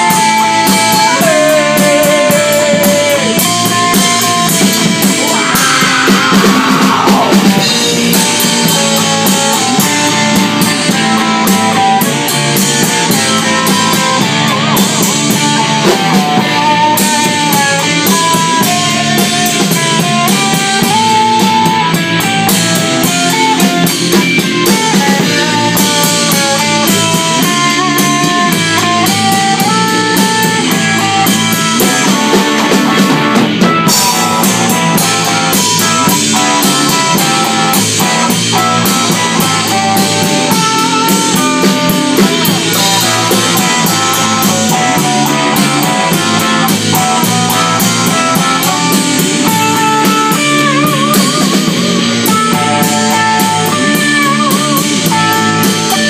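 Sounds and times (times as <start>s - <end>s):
drum kit playing: 0.0s - 56.0s
electric bass: 0.0s - 56.0s
electric guitars: 0.0s - 56.0s.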